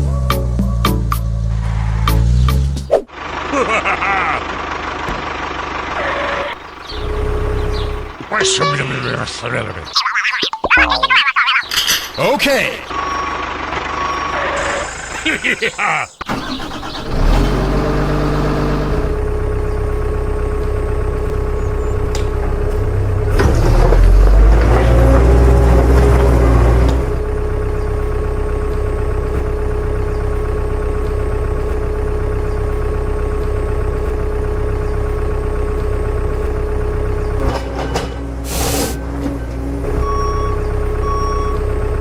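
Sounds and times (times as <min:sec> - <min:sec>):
vehicle engine idling: 0:00.0 - 0:42.0.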